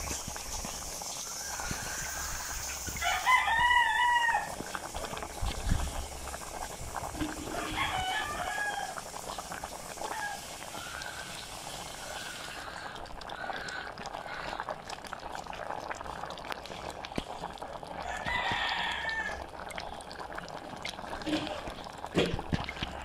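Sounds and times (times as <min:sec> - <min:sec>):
pot bubbling at a boil: 0:00.0 - 0:23.0.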